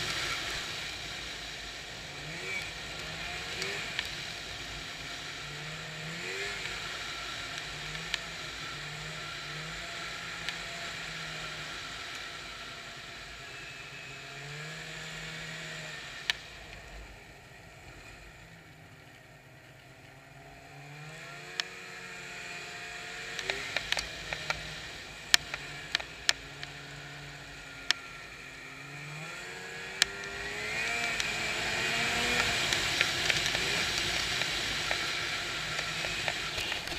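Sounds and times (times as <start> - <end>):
snowmobile engine running: 0.0 - 18.7, 20.7 - 36.9.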